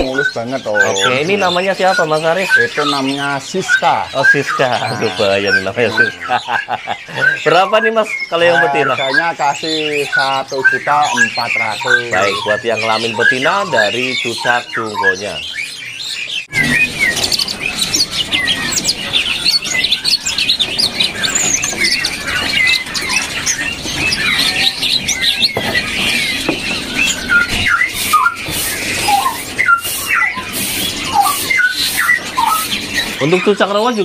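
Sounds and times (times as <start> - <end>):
low whistled bird notes: 0.0 - 34.0
songbirds chirping and singing: 0.0 - 34.0.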